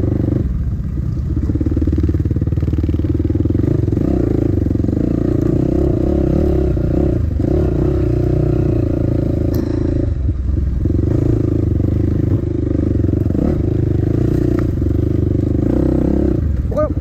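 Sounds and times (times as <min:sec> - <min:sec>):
dirt bike engine revving: 0:01.4 - 0:17.0.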